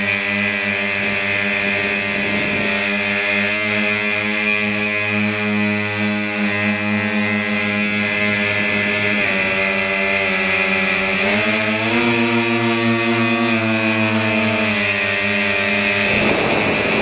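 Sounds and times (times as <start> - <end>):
drone propellers droning: 0.0 - 17.0.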